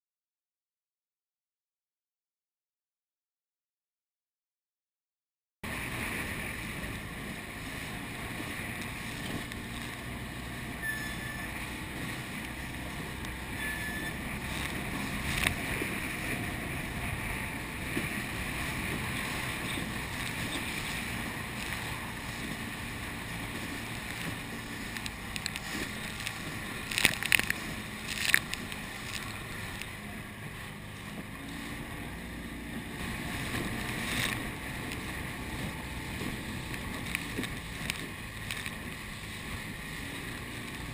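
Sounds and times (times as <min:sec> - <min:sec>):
water slapping boat: 0:05.6 - 0:40.9
wind on microphone: 0:05.6 - 0:40.9.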